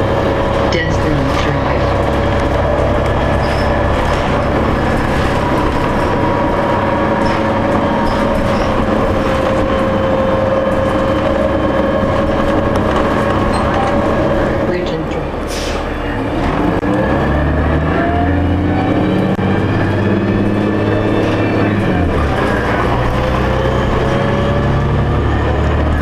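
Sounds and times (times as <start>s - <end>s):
bus engine drone: 0.0s - 26.0s
road noise: 0.0s - 26.0s.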